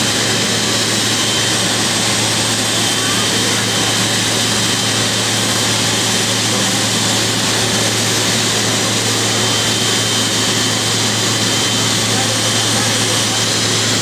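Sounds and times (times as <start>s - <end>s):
jet engines running at taxi power: 0.0s - 14.0s.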